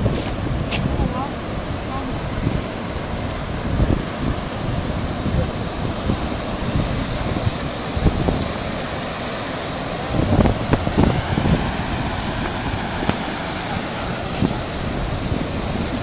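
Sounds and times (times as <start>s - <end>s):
floodwater rushing: 0.0s - 16.0s
wind buffeting microphone: 0.0s - 16.0s.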